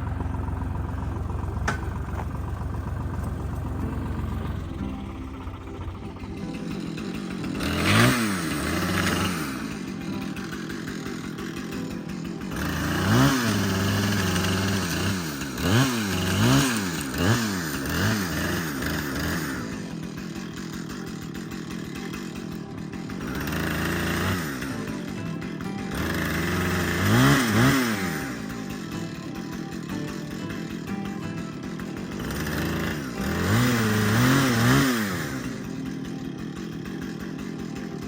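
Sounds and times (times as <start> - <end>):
small engine idling and revving: 0.0 - 38.0.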